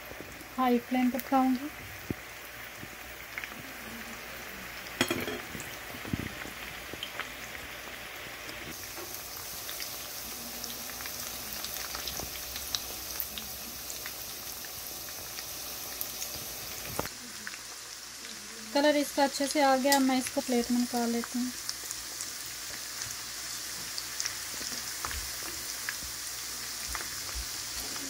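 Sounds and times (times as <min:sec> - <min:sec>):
chicken deep-frying in oil: 0:00.0 - 0:28.0.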